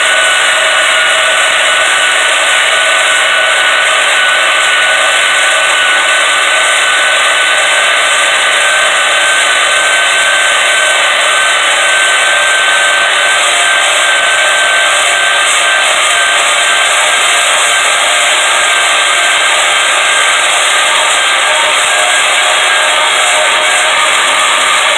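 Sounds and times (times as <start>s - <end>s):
bandsaw cutting steel: 0.0s - 24.9s.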